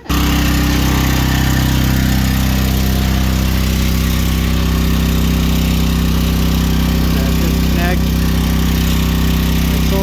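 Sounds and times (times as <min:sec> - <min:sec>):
generator engine running: 0:00.0 - 0:10.0.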